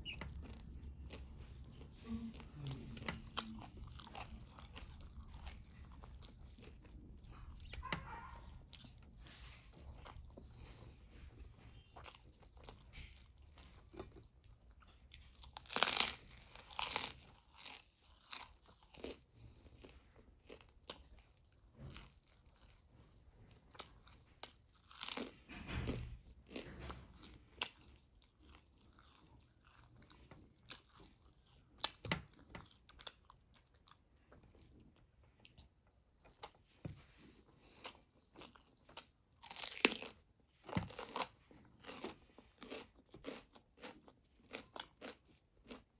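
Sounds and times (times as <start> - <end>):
person chewing and crunching food: 0.0 - 45.9.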